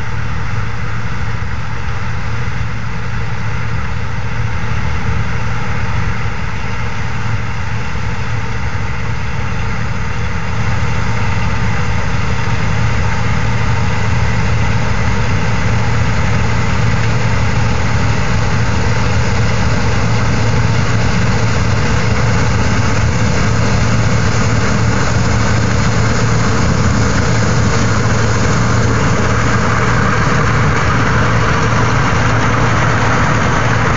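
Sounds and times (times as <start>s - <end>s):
combine harvester humming: 0.0s - 33.9s.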